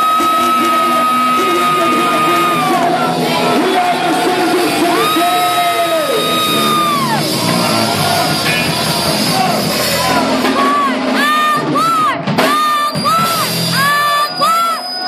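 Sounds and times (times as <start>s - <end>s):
live rock band playing: 0.0s - 14.7s.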